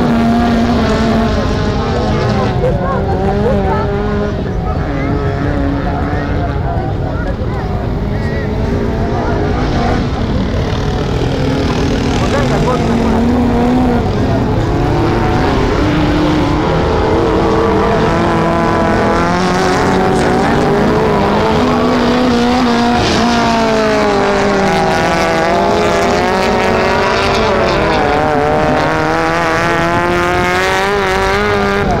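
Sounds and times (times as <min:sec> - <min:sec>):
race car engines revving: 0:00.0 - 0:32.0.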